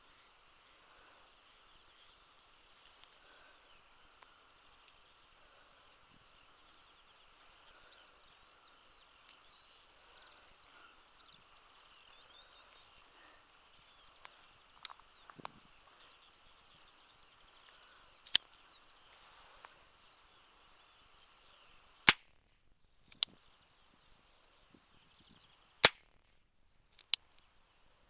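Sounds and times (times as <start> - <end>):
small chirps: 0.1 - 26.3.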